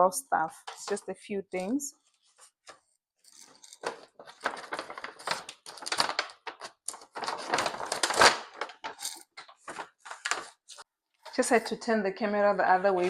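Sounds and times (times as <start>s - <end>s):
objects being handled and moved: 0.4s - 13.0s.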